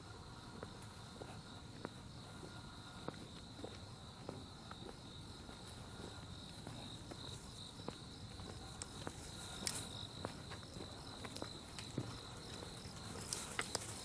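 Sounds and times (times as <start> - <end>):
footsteps: 0.0 - 14.0
insects trilling: 0.0 - 14.0.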